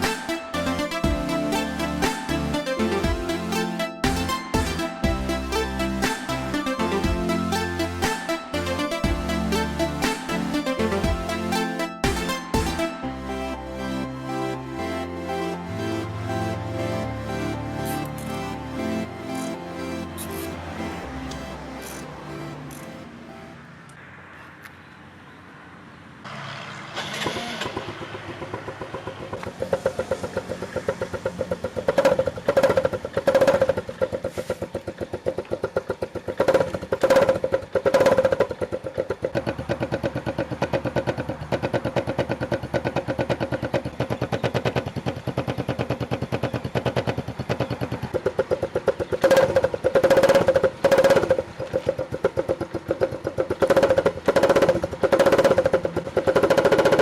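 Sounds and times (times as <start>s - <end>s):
motorcycle-sound gadget buzzing: 0.0s - 19.6s, 26.2s - 57.0s.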